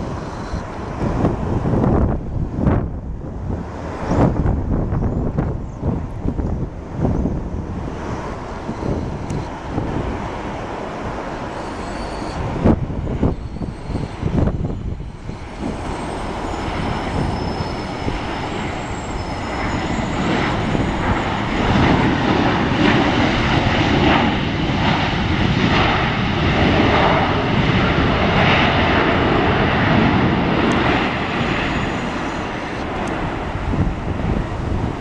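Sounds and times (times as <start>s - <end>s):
jet airliner landing rumble: 0.0s - 35.0s.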